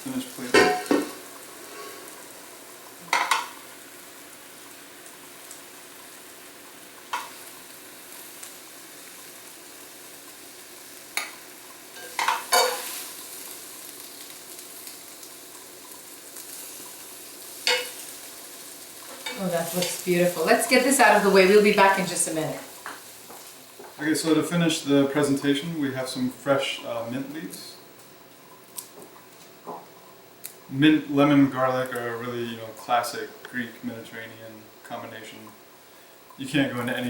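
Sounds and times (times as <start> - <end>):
leaves sizzling in a pan: 0.0 - 37.0.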